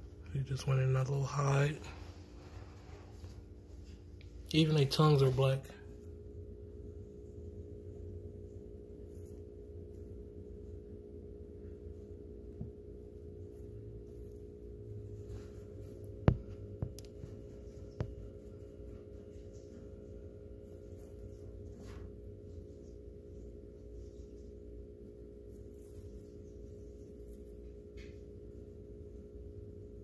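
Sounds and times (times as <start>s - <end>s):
electrical hum of held tones: 0.0s - 30.0s.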